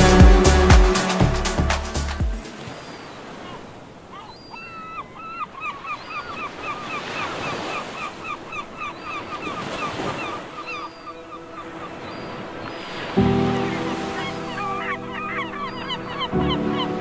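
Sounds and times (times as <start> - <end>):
gulls calling: 0.0 - 17.0
surf: 0.0 - 17.0
wind: 1.9 - 17.0.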